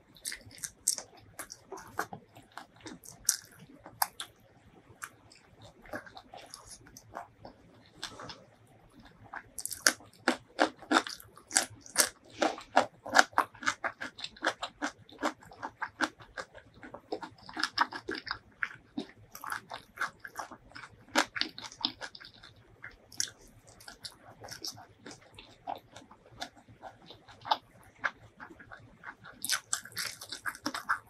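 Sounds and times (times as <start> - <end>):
crunchy chewing: 0.1 - 31.0.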